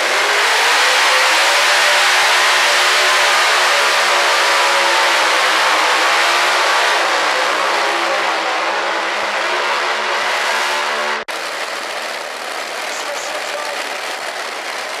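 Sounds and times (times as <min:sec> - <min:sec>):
engine running flat out: 0:00.0 - 0:15.0.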